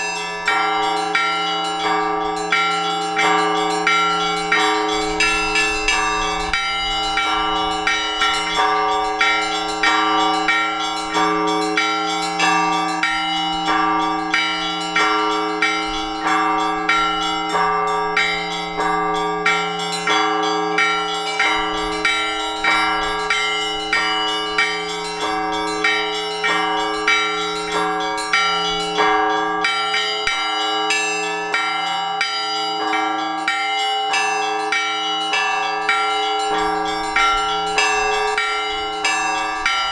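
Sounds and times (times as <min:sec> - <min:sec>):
large bells humming: 0:00.0 - 0:39.9
small church bells striking: 0:00.0 - 0:39.9.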